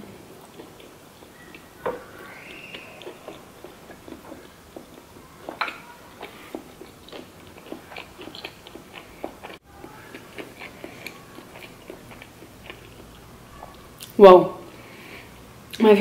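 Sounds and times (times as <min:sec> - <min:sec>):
person chewing with mouth clicks: 0:00.4 - 0:14.2.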